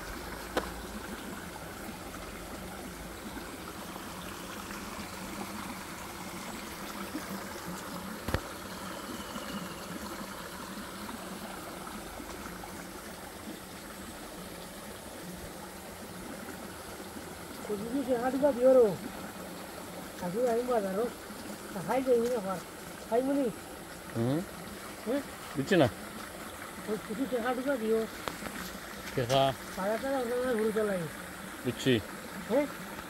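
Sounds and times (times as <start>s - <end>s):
water churning and gurgling: 0.0s - 33.0s.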